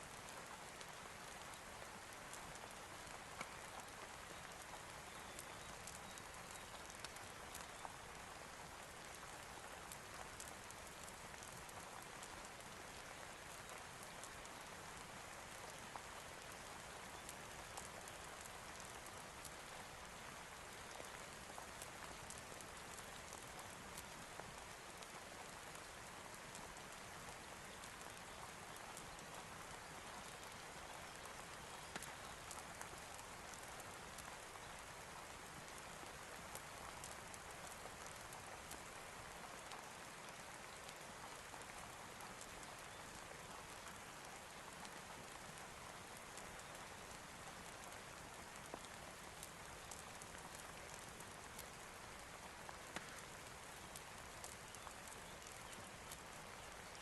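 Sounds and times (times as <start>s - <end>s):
sharp ticks of raindrops: 0.0s - 57.0s
steady rain hiss: 0.0s - 57.0s.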